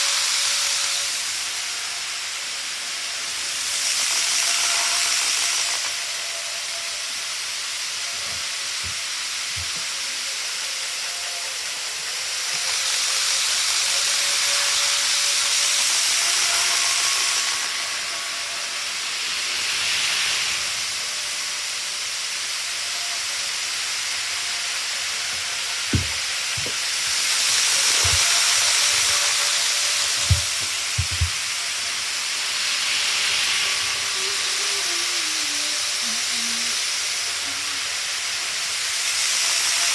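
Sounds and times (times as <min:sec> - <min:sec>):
faint motor whine: 0:00.0 - 0:39.9
model train hiss: 0:00.0 - 0:39.9.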